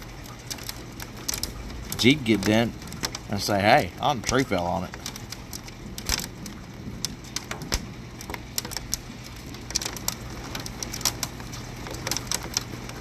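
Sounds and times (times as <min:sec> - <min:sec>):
hailstones striking hard surfaces: 0:00.0 - 0:13.0
rain hissing: 0:00.0 - 0:13.0.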